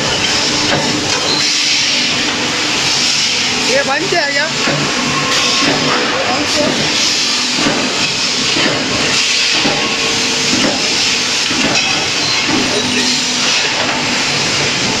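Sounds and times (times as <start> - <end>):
hissing machinery: 0.0 - 15.0.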